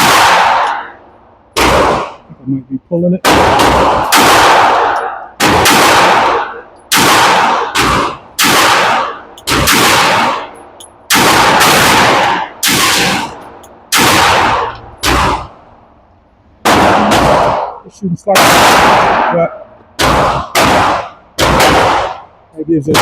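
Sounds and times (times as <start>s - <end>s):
pistol shots with echo: 0.0s - 2.3s, 3.2s - 15.6s, 16.6s - 23.0s.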